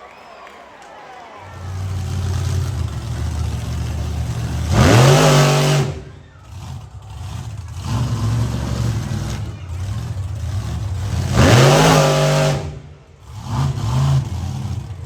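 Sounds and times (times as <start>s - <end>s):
truck engine revving: 1.4s - 15.0s.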